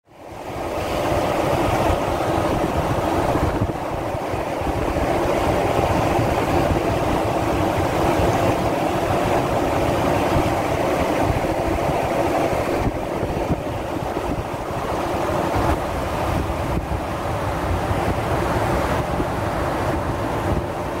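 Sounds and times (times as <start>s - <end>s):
road noise: 0.1s - 21.0s
wind buffeting microphone: 0.1s - 21.0s.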